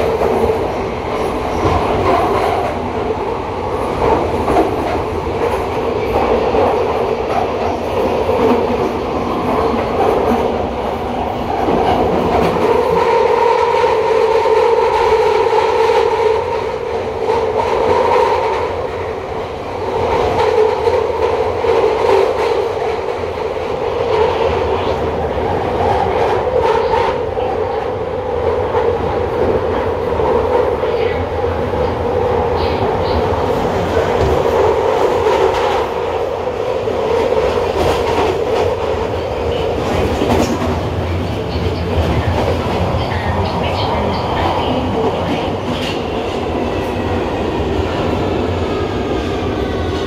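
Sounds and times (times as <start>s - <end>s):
rail clicks: 0.0s - 50.0s.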